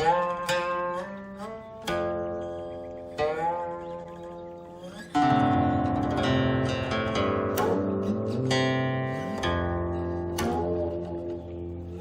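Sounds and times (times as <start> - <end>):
guqin plucked notes: 0.0 - 12.0.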